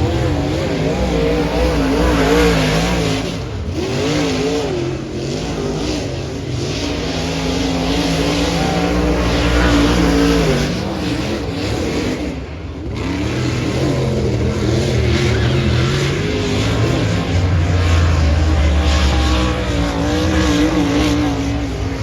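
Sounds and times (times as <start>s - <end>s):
race car engine at speed: 0.0s - 22.0s.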